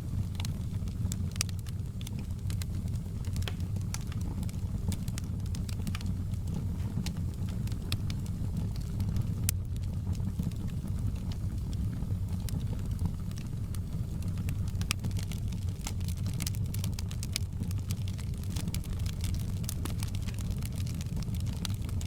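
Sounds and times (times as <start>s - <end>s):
fire popping: 0.0s - 22.0s
low fire rumble: 0.0s - 22.0s
wood fire crackling: 0.0s - 22.0s.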